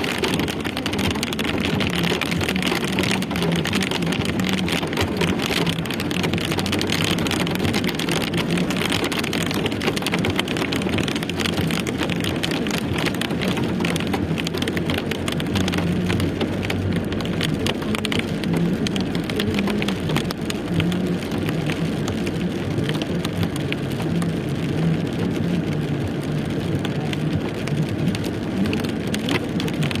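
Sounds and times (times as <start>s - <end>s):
rain falling: 0.0s - 30.0s
raindrops ticking on hard surfaces: 0.0s - 30.0s.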